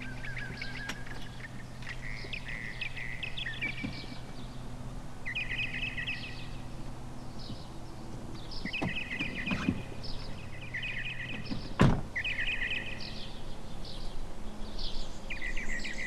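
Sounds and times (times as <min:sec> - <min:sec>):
birds singing chirping trills: 0:00.0 - 0:16.0
steady low hum: 0:00.0 - 0:16.0.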